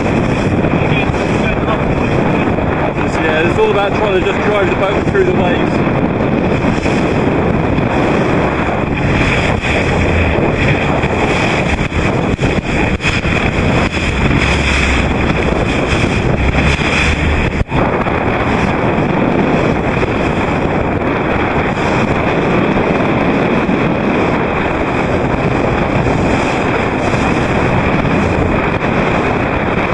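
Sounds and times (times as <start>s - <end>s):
rushing water and waves: 0.0s - 29.9s
wind buffeting microphone: 0.0s - 29.9s.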